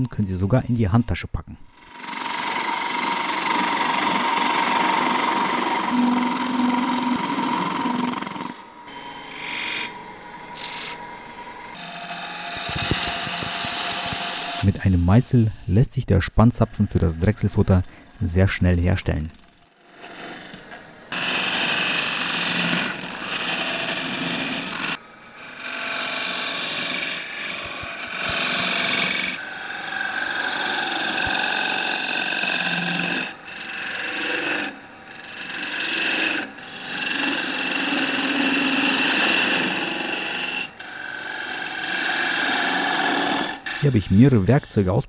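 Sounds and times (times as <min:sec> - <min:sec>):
chisel cutting spinning wood: 0:01.7 - 0:44.7.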